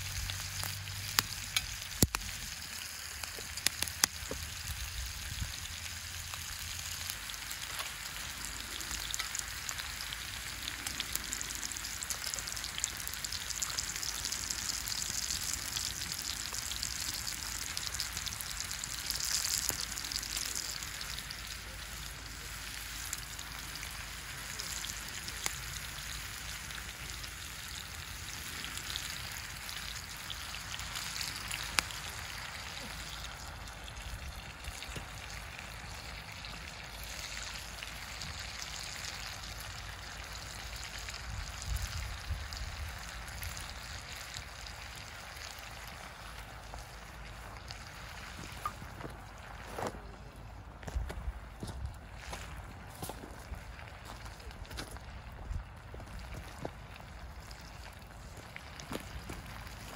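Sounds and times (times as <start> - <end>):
food sizzling in a frying pan: 0.0 - 49.9.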